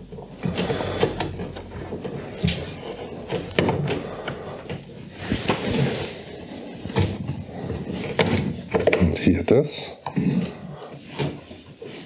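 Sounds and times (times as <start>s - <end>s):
rubber hose rubbing and scraping: 0.0s - 12.0s.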